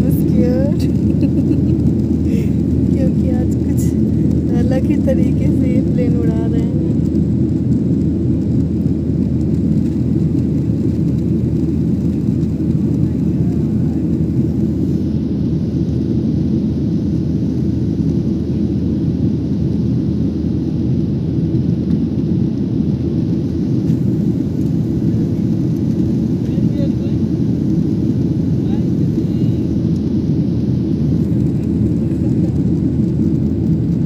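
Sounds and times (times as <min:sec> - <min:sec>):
jet airliner cabin roar: 0:00.0 - 0:34.0.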